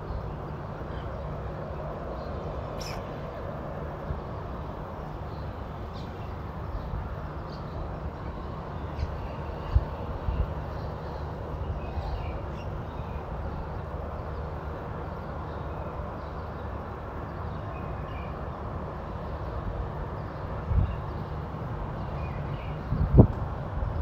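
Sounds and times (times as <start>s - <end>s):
low street rumble: 0.0s - 24.0s.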